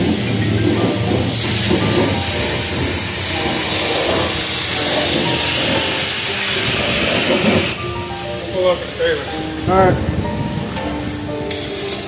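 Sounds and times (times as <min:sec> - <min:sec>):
pressure washer spraying water: 0:00.0 - 0:12.0.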